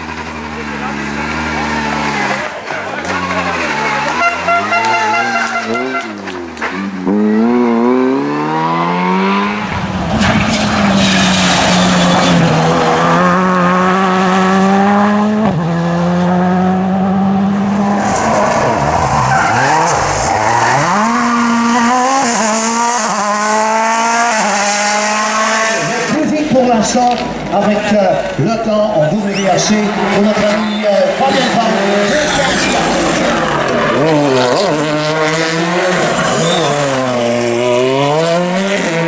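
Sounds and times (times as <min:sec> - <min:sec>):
rally car engine at high revs: 0:00.0 - 0:27.6, 0:29.6 - 0:39.0.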